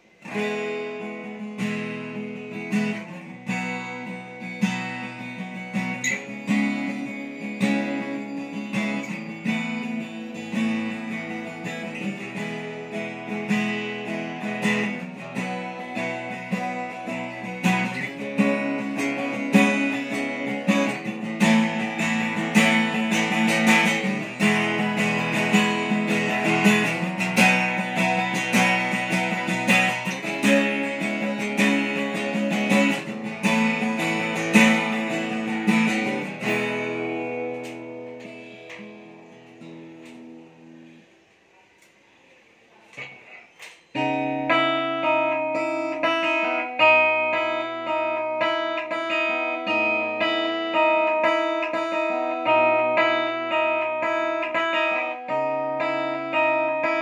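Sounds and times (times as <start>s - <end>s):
acoustic guitar fingerstyle: 0.0s - 57.0s.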